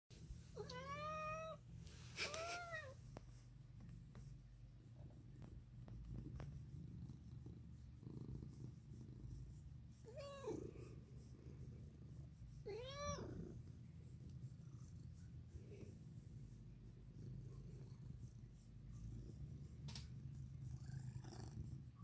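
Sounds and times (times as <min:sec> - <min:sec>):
cat purring: 0:01.2 - 0:22.0.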